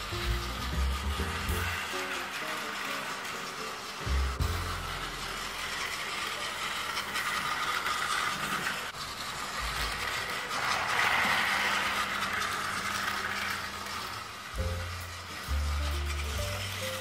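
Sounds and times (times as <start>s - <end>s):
toy train motor whirring: 0.0s - 17.0s
wheels rattling over track joints: 0.0s - 17.0s.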